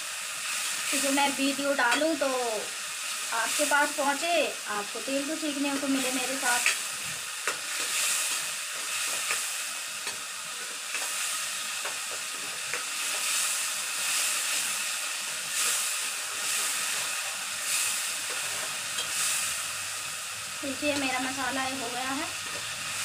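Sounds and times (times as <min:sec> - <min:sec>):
masala sizzling: 0:00.0 - 0:23.0.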